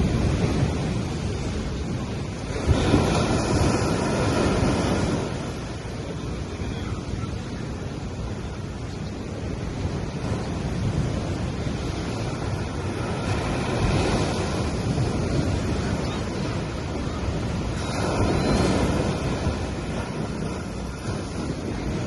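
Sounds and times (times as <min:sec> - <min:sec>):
sea waves washing on beach: 0:00.0 - 0:22.0.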